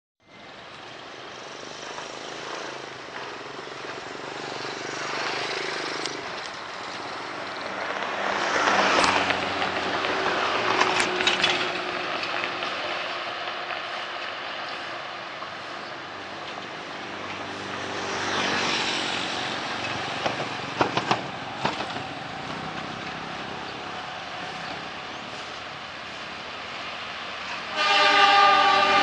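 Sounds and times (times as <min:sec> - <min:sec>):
train running past: 0:00.3 - 0:29.0.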